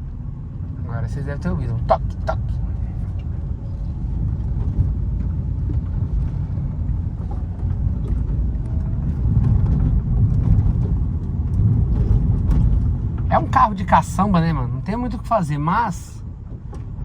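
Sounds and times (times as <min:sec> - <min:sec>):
road rumble inside car cabin: 0:00.0 - 0:17.0.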